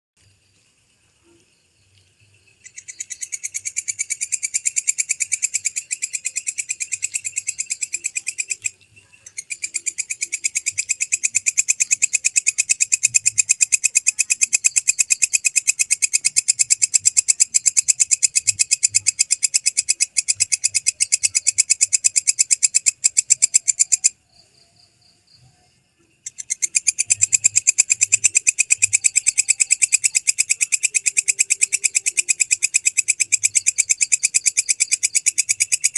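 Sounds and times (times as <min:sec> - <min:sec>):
bush cricket trilling: 0:00.2 - 0:35.9.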